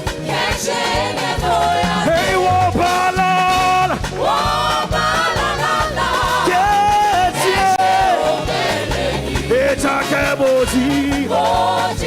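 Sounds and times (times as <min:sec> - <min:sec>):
band with steady drum beat: 0:00.0 - 0:12.0
group singing gospel song: 0:00.0 - 0:12.0.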